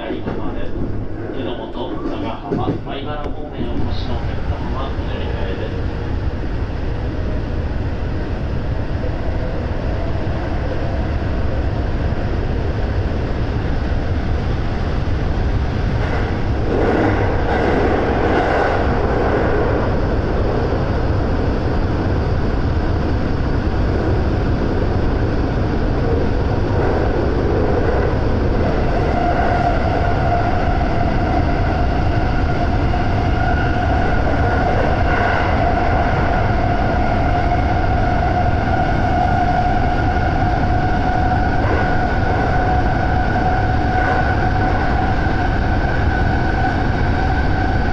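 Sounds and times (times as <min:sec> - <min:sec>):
train wheels rumbling in tunnel: 0:00.0 - 0:47.9
rushing air: 0:03.8 - 0:47.9.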